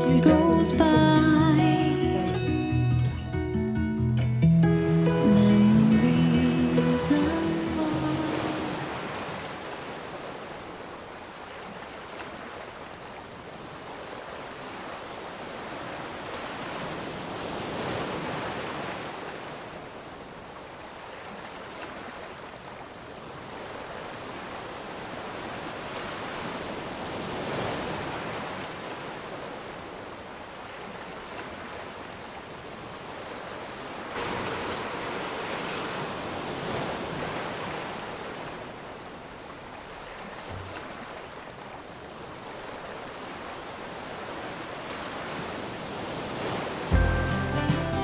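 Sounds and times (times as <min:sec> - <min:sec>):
sea waves washing: 0:04.6 - 0:47.2.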